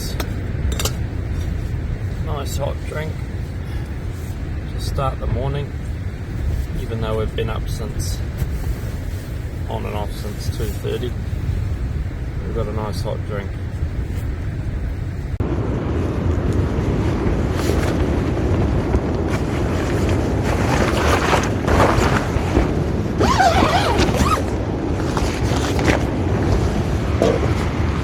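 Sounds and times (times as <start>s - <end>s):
storm wind buffeting microphone: 0.0s - 28.0s.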